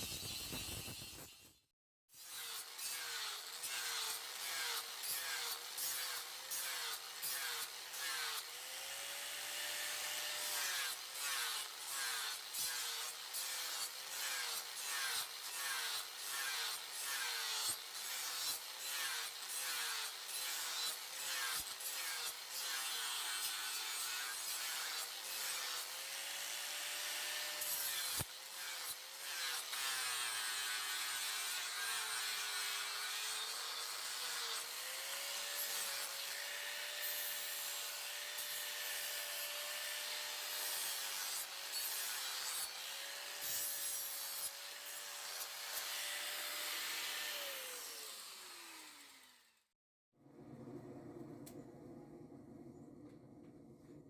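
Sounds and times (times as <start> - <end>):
grinder grinding steel blade: 0.0 - 49.7.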